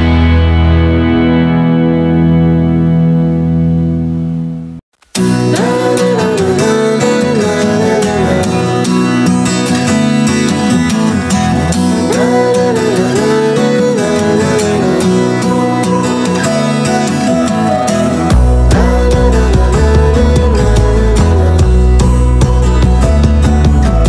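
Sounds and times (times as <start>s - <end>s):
guitar music over steady beat: 0.0s - 24.0s.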